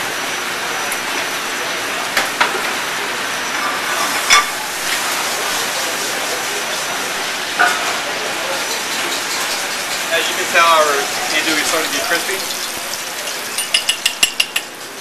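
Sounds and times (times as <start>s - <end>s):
sausage sizzling in oil: 0.0s - 15.0s.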